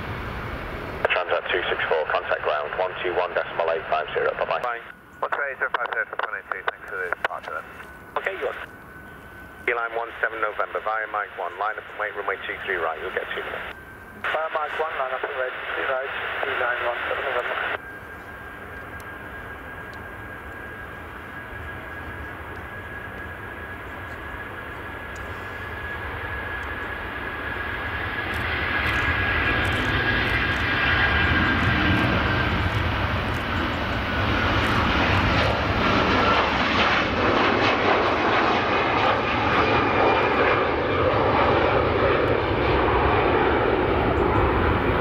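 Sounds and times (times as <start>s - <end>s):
jet engines whining: 0.0s - 45.0s.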